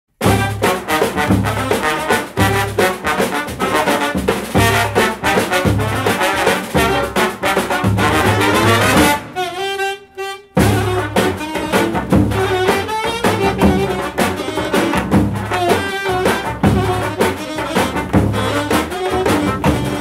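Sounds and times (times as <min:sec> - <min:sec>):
drums: 0:00.1 - 0:09.8, 0:10.4 - 0:20.0
brass band playing fast dance: 0:00.1 - 0:20.0.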